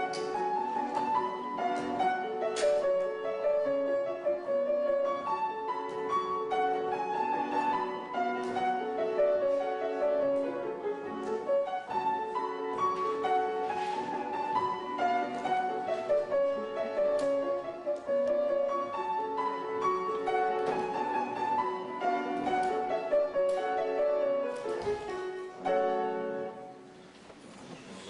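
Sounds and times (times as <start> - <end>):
classical piano melody: 0.0 - 28.0.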